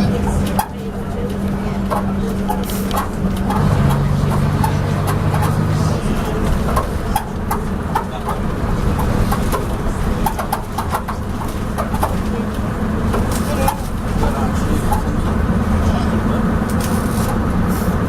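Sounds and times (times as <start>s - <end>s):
bus body clanking and rattling: 0.0s - 18.0s
bus diesel engine droning: 0.0s - 18.0s.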